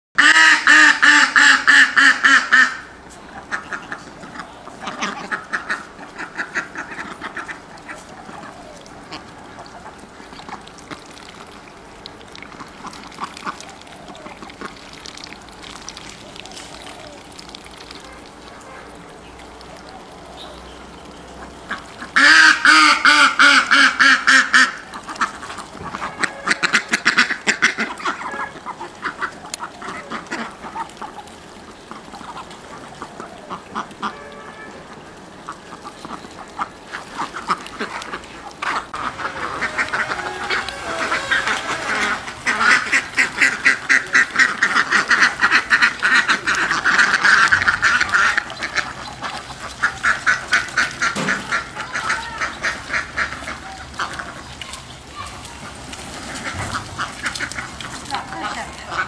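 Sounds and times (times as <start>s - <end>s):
ducks quacking: 0.2s - 59.0s.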